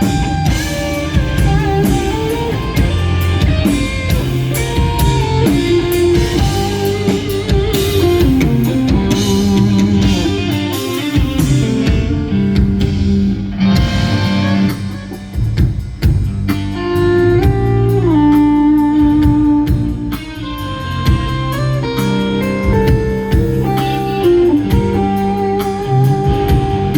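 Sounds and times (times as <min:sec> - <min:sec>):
bass and drums: 0:00.0 - 0:26.9
electric lead guitar melody: 0:00.0 - 0:26.9.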